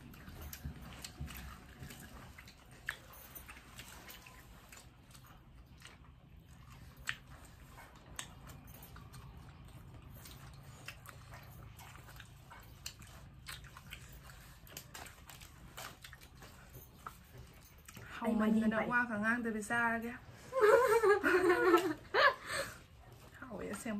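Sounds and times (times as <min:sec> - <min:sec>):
people chewing crunchy food: 0:00.0 - 0:18.7, 0:20.2 - 0:23.9
faint low hum: 0:00.0 - 0:23.9.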